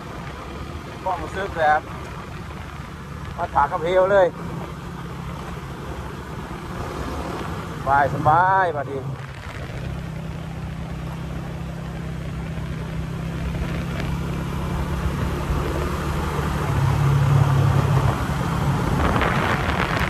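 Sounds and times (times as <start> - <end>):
road and wind rush: 0.0 - 20.0
motorcycle engine running: 1.6 - 20.0.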